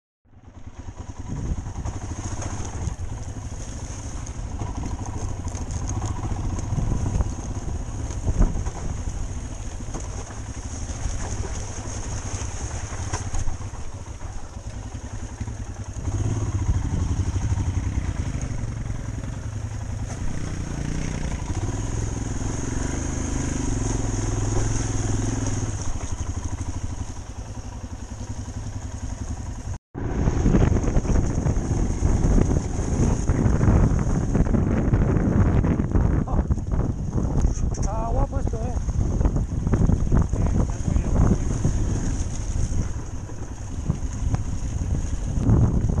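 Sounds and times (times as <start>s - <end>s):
motorcycle engine running: 0.2s - 46.0s.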